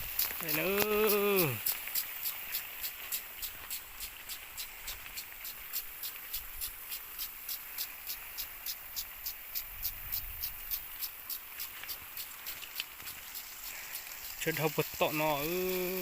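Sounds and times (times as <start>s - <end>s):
faint steady hiss: 0.0s - 16.0s
insect calling in pulses: 0.0s - 16.0s.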